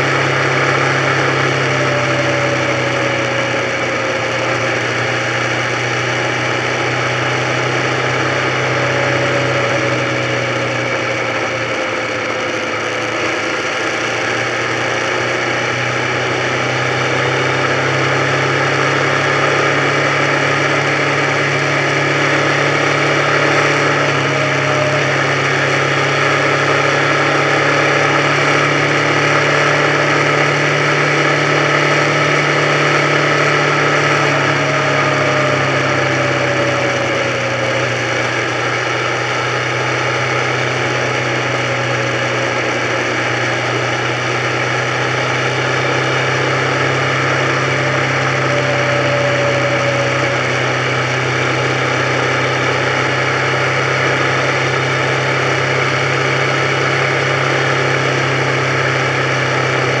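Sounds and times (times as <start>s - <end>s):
motorcycle engine cruising: 0.0s - 60.0s
wind and road noise: 0.0s - 60.0s.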